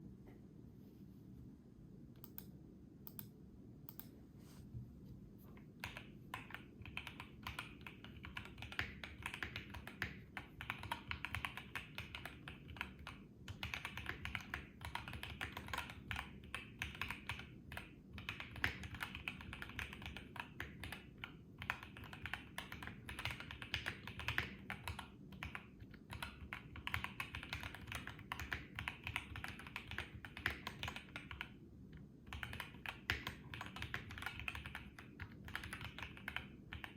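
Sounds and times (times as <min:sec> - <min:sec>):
mechanical keyboard typing: 0:05.8 - 0:31.6, 0:32.2 - 0:36.9.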